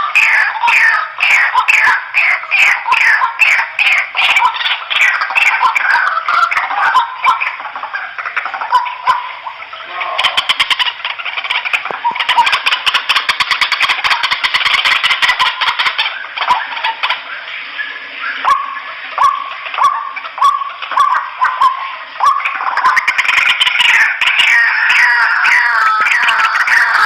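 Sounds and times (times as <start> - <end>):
waterhens calling: 0.0 - 27.0.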